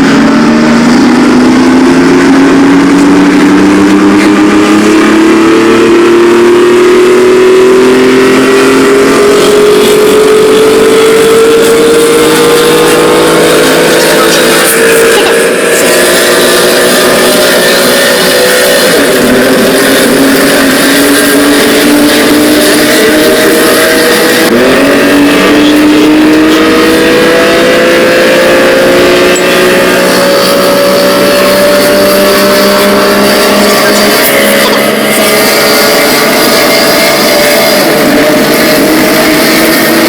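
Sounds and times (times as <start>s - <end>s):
vehicle engine accelerating: 0.0s - 40.0s.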